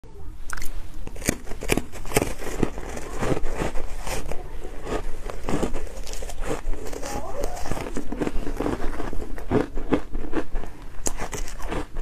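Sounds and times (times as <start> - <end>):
ice being crunched: 1.1 - 10.4, 11.0 - 12.0.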